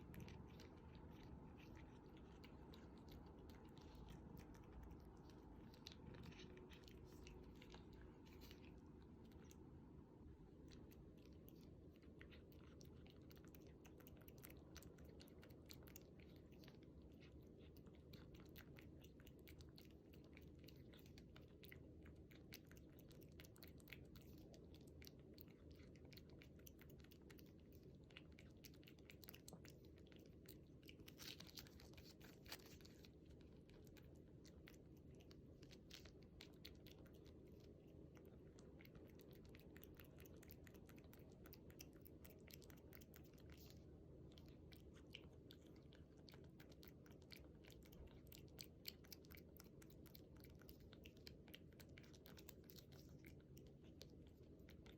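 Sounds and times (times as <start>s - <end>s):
cat licking and chewing: 0.0s - 54.9s.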